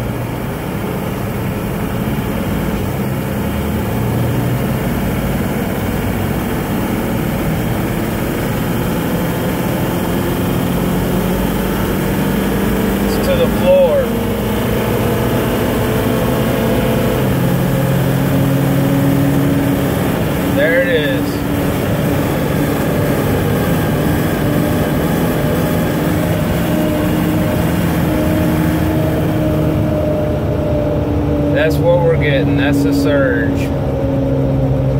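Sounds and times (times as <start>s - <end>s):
diesel engine accelerating: 0.0s - 34.9s
road noise inside cab: 0.0s - 34.9s.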